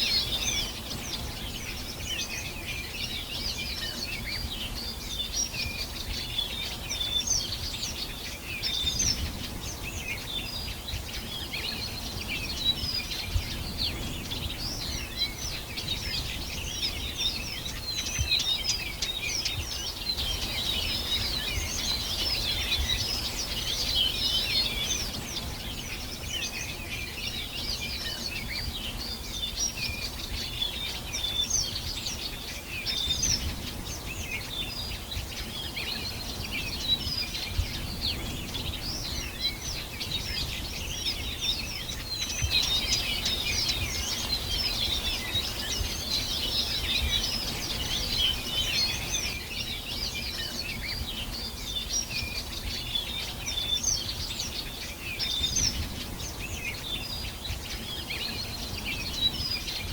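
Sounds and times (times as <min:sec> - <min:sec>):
birds chorus chirping and trilling: 0:00.0 - 0:59.9.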